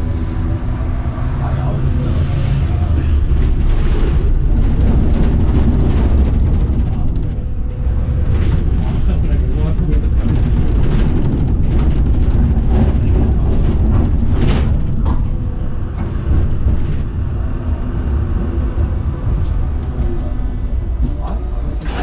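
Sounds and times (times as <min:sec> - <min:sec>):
tram rumbling on rails: 0:00.0 - 0:22.0
wheels clunking over track junctions: 0:03.1 - 0:22.0.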